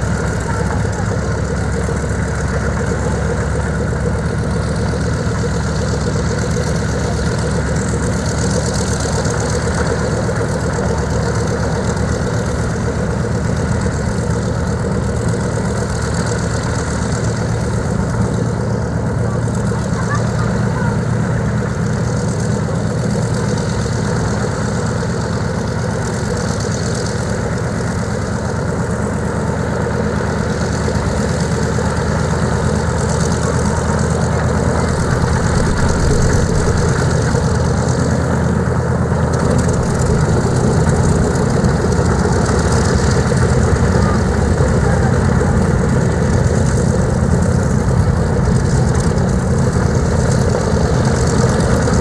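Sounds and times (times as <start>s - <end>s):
radial aircraft engines idling: 0.0s - 52.0s.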